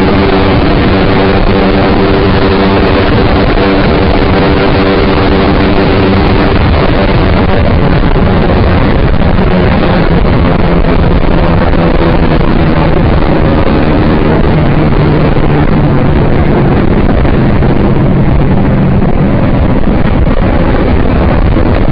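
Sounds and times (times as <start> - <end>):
motorcycle engine cruising: 0.0 - 21.9
wind noise on microphone: 0.0 - 21.9.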